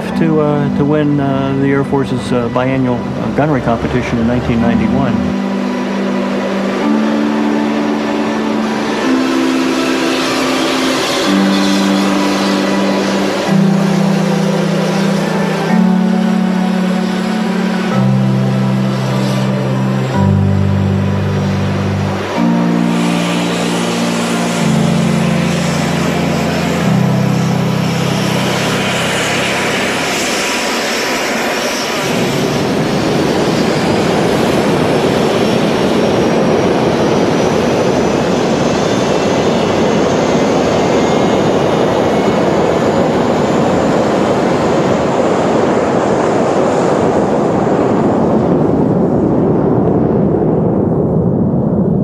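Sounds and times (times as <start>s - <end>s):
music chords: 0.0s - 47.7s
high whine rising in pitch: 0.0s - 52.0s
jet engines running: 0.0s - 52.0s.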